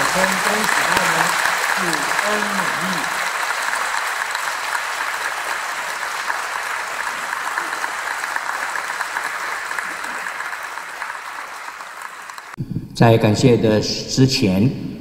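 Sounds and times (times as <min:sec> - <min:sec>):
crowd applauding: 0:00.0 - 0:12.6.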